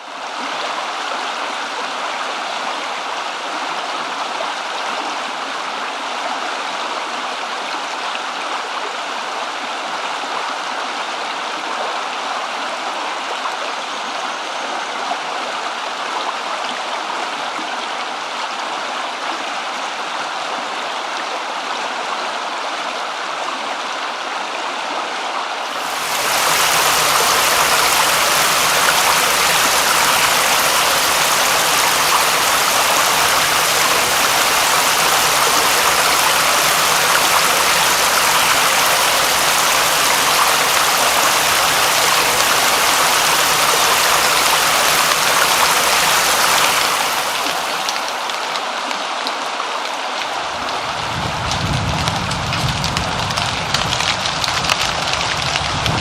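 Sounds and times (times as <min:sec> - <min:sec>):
rushing water: 0:00.0 - 0:14.7, 0:25.4 - 0:56.0.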